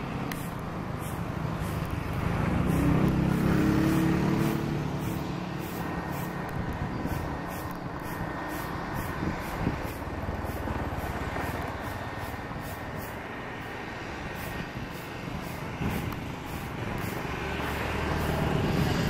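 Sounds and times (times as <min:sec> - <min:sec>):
turboprop engine drone: 0:00.0 - 0:19.0.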